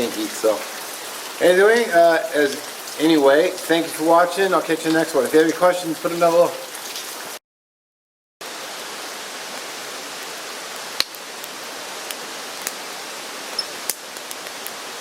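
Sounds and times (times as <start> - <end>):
rain hissing: 0.0 - 7.4, 8.4 - 15.0.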